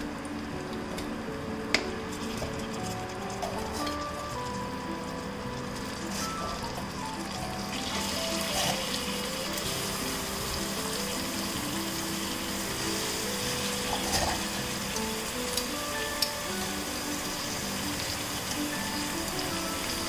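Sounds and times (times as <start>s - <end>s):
background music: 0.0s - 20.0s
meat sizzling in a pan: 1.9s - 20.0s.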